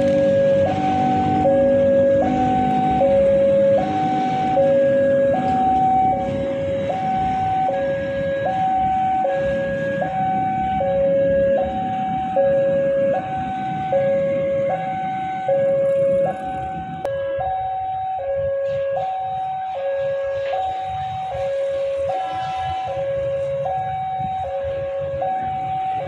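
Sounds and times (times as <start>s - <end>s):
level crossing two-tone alarm: 0.0s - 26.0s.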